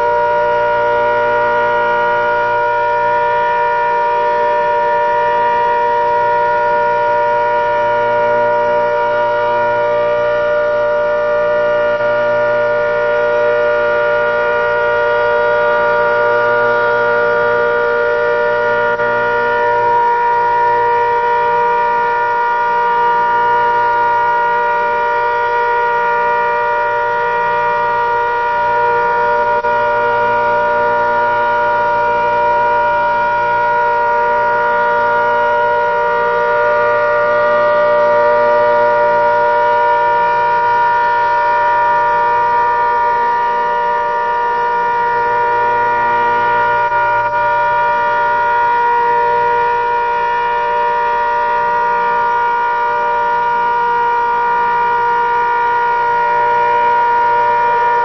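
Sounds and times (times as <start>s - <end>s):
warning siren steady chord: 0.0s - 58.0s.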